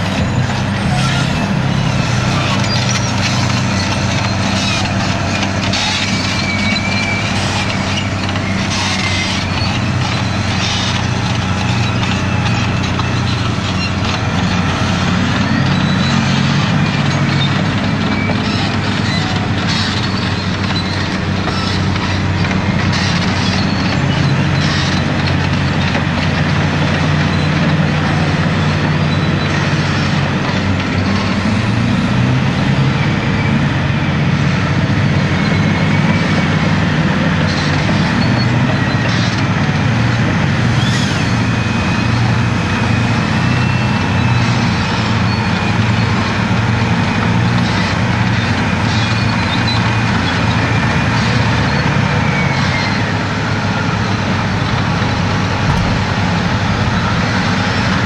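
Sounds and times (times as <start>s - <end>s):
diesel engines running hard: 0.0s - 58.0s.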